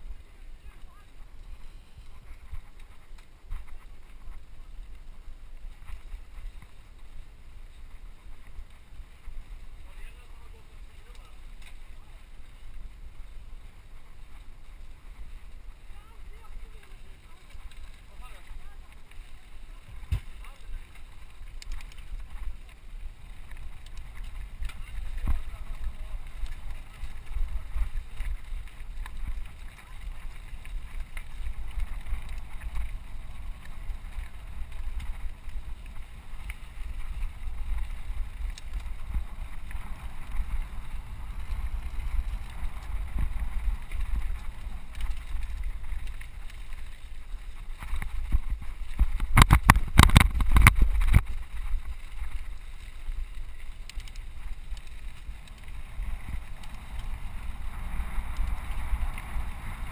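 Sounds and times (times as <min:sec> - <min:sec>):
bike tyre and frame rattle: 0:00.0 - 0:59.9
wind buffeting microphone: 0:01.9 - 0:59.9.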